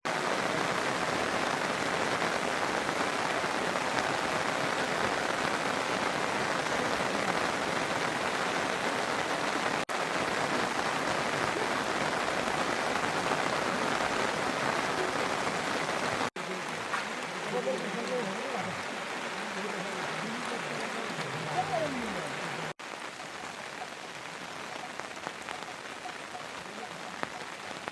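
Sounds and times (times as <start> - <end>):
heavy rain hiss: 0.1 - 27.9.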